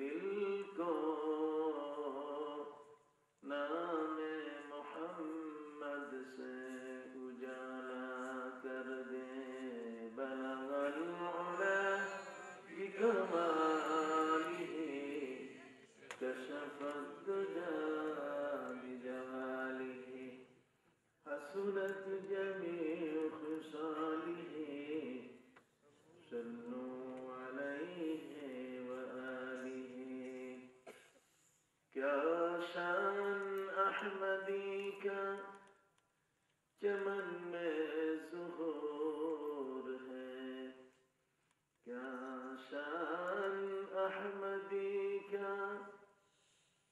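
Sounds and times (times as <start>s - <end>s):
man chanting religious recitation: 0.0s - 20.6s, 21.2s - 30.8s, 31.9s - 35.7s, 36.8s - 40.9s, 41.9s - 46.0s.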